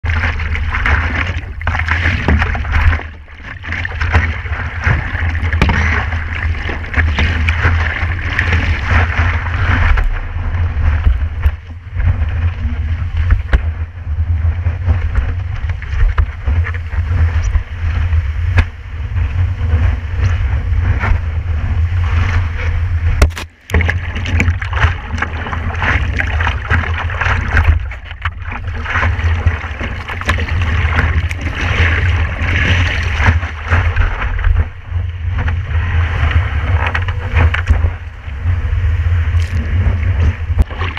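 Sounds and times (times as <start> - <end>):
sea water rushing and splashing: 0.0 - 40.9
wind buffeting microphone: 0.0 - 40.9.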